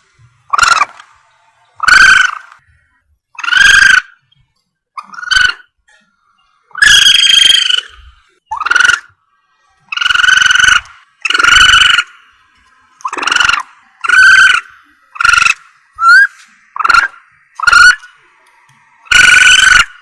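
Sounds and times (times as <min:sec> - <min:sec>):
civet calling: 0:00.4 - 0:04.4, 0:05.0 - 0:05.8, 0:06.4 - 0:09.2, 0:09.8 - 0:20.0.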